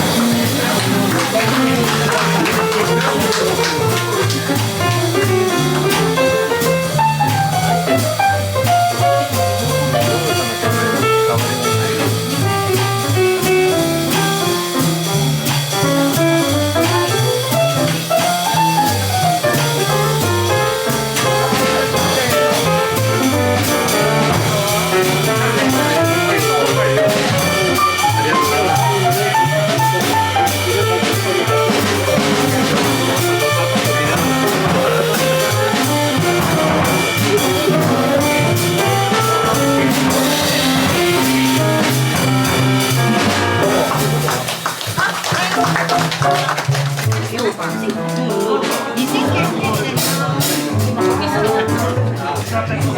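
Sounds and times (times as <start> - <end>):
live jazz band playing: 0.0 - 52.9.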